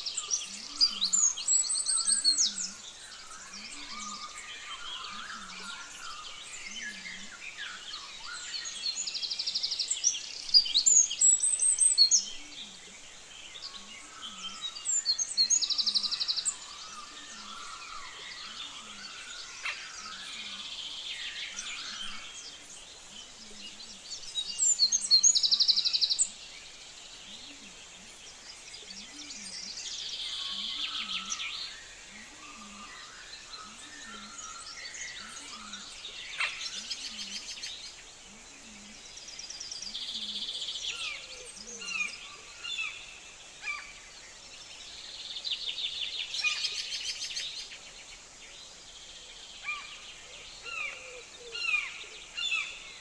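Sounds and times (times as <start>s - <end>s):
birds calling and chirping: 0.0s - 53.0s.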